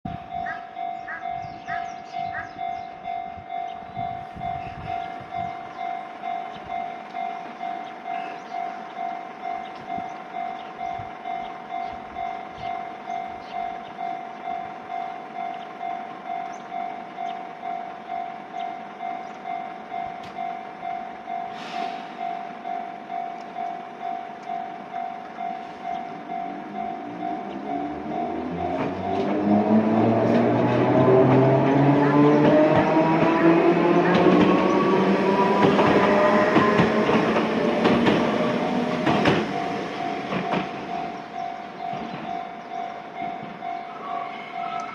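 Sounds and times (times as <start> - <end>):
level-crossing alarm dinging: 0.1 - 44.9
train passing with clicking: 0.1 - 44.9.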